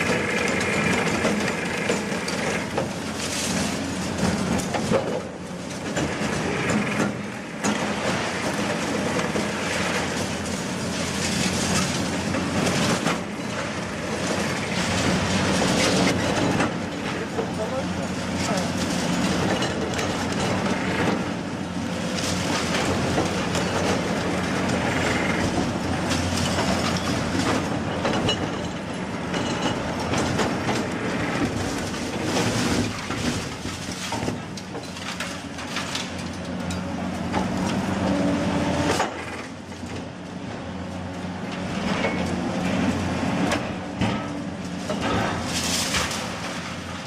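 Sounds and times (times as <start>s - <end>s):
heavy machinery engine drone: 0.0s - 47.0s.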